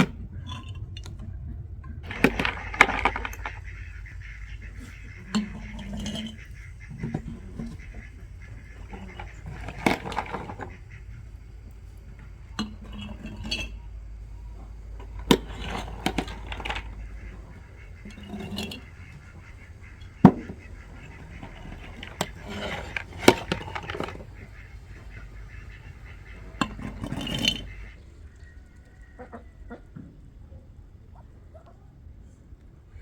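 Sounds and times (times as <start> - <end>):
hard objects clinking and knocking: 0.0 - 28.0
rustling and scraping: 0.0 - 28.0.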